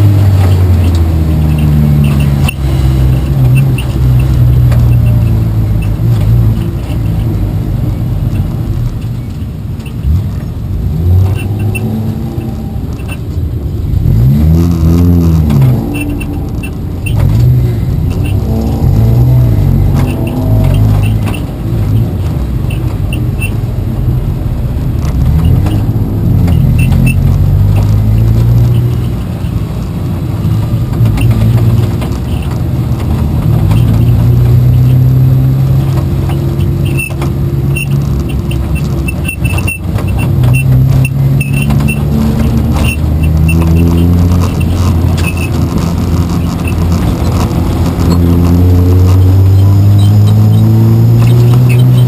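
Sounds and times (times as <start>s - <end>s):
race car engine revving: 0.0s - 9.1s, 9.9s - 52.0s.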